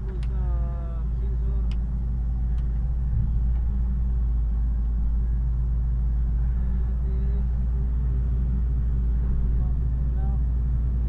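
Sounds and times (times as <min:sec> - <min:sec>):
heavy diesel engine rumbling: 0:00.0 - 0:11.0.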